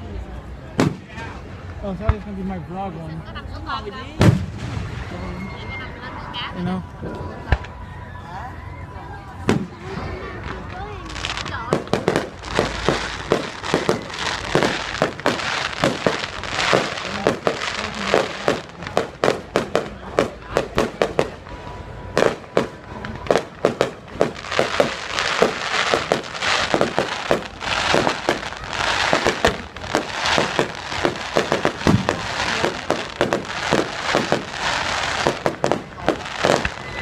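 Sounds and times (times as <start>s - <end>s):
fireworks bangs and crackling: 0.0s - 6.4s, 7.3s - 7.9s, 9.2s - 37.0s.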